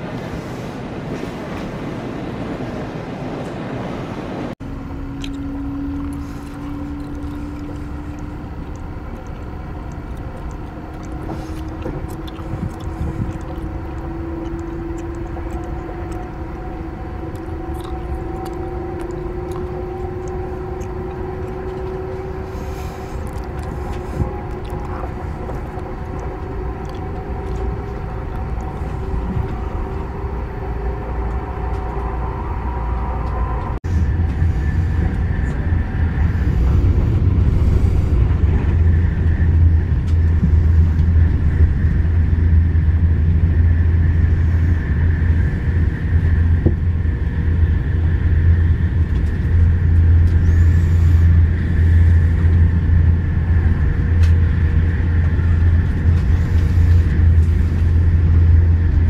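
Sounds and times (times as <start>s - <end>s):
moving train rumble: 0.0s - 59.0s
humming tones: 4.6s - 59.0s.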